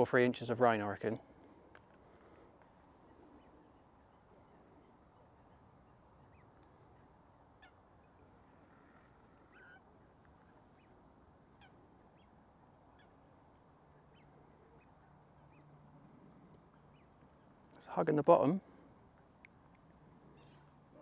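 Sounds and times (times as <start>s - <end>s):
faint bird calls: 1.2s - 17.7s, 19.8s - 21.0s.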